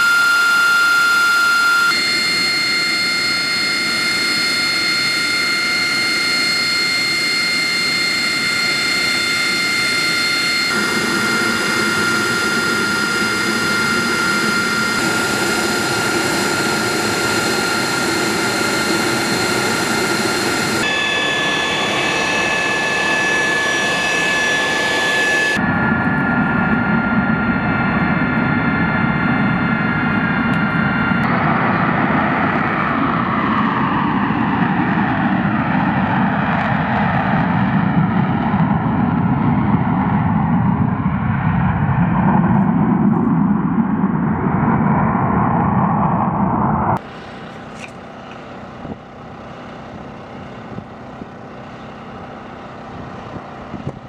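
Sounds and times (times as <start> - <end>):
jet engine whine and rushing: 0.0 - 54.0
deep engine rumble: 2.0 - 54.0.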